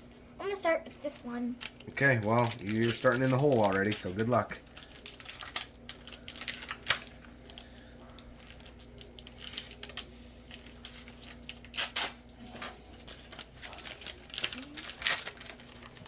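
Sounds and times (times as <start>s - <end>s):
faint steady hum: 0.0s - 16.0s
foil wrapper crinkling and tearing: 1.5s - 12.3s, 12.9s - 16.0s.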